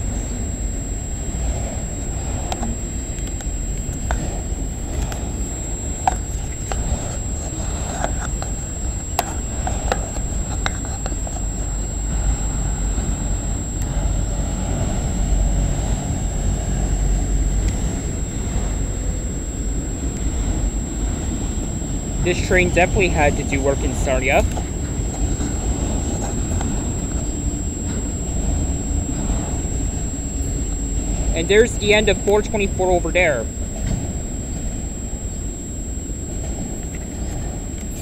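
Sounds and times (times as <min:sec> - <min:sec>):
train wheels rumbling on rail: 0:00.0 - 0:35.5.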